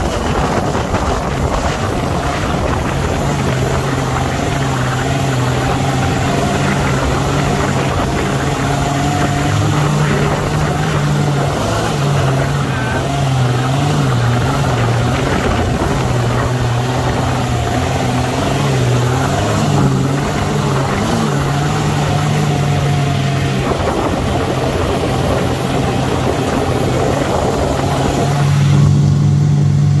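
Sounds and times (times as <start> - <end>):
wind rushing: 0.0 - 29.1
dune buggy engine running: 0.0 - 30.0.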